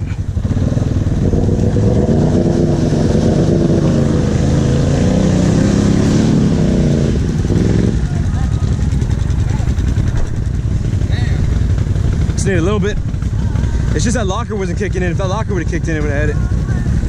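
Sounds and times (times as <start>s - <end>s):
atv engine revving under load: 0.0s - 17.0s.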